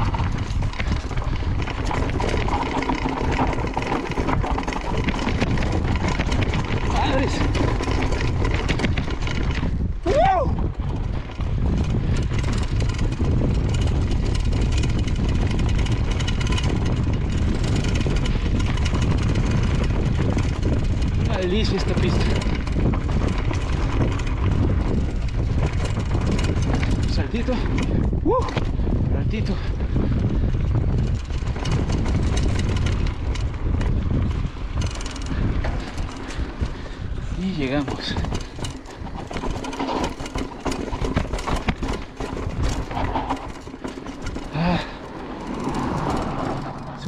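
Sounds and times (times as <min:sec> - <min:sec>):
rapid ticking: 0:00.0 - 0:09.9, 0:10.8 - 0:28.1, 0:29.4 - 0:47.0
tyres rolling over dirt: 0:00.0 - 0:29.6, 0:30.4 - 0:47.0
bike clattering over bumps: 0:00.0 - 0:47.0
wind rumble on microphone: 0:00.0 - 0:47.0.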